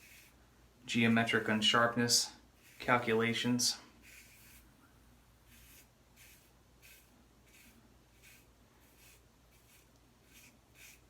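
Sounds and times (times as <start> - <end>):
razor scraping stubble: 0.0 - 0.4, 1.3 - 4.7, 5.5 - 11.0.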